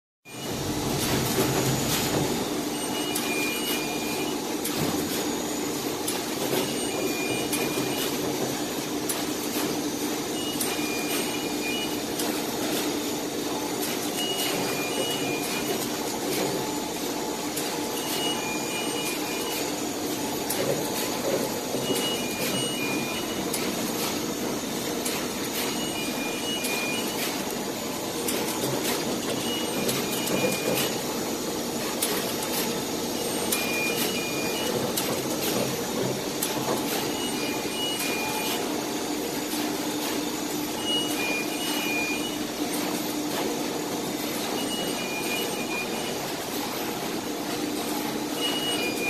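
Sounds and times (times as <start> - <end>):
mechanical hum: 0.3 - 49.0.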